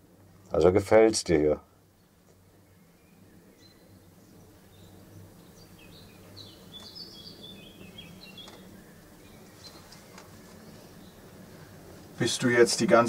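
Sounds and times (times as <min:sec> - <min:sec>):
low steady hum: 0:00.0 - 0:13.0
bird chirping faintly: 0:01.7 - 0:13.0.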